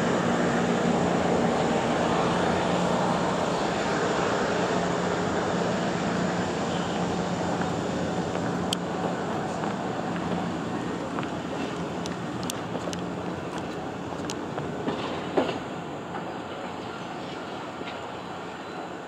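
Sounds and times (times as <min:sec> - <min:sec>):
electric train running drone: 0:00.0 - 0:19.0.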